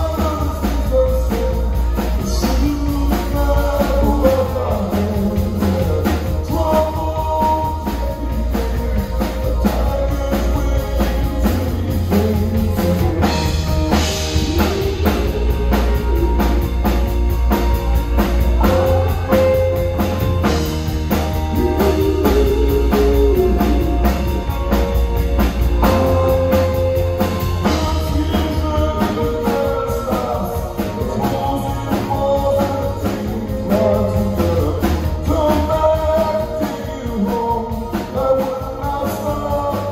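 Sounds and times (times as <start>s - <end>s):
live rock band playing: 0.0s - 39.9s
woman singing lead: 0.0s - 39.9s.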